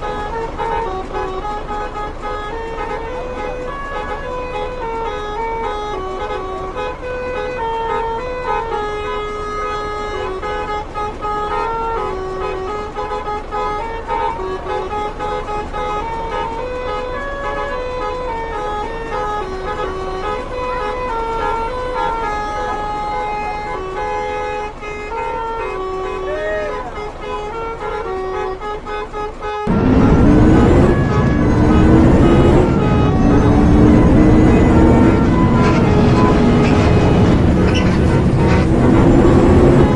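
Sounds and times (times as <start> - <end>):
bus horn playing a melody: 0.0 - 39.9.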